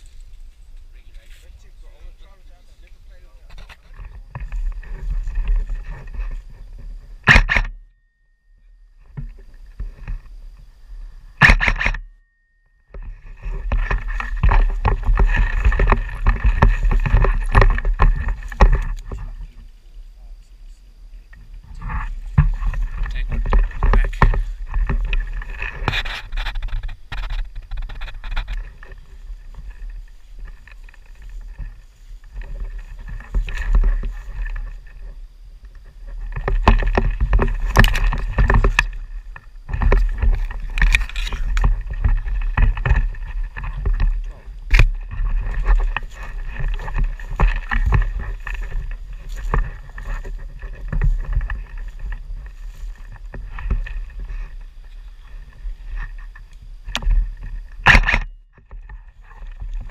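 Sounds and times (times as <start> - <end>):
footsteps through long grass: 0.0 - 7.2, 12.9 - 57.8, 58.5 - 59.9
wind rumble: 0.0 - 7.8, 12.8 - 59.9
microphone handling noise: 0.0 - 7.9, 9.0 - 12.2, 12.9 - 19.8, 20.4 - 59.9.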